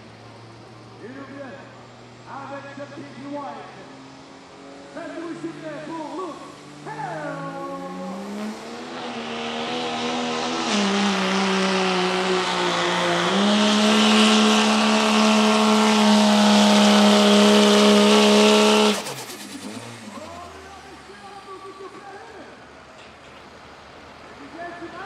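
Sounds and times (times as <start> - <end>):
diesel truck engine at full throttle: 0.0 - 25.0.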